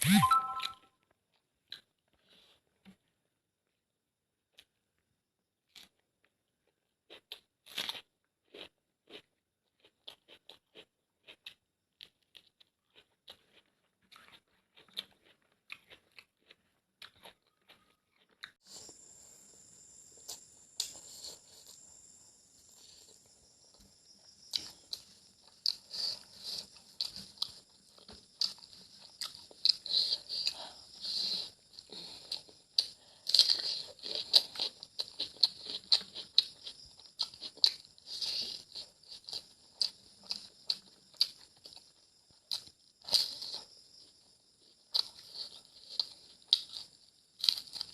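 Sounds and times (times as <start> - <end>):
person chewing food: 0.2 - 3.2, 4.5 - 5.0, 5.6 - 47.9.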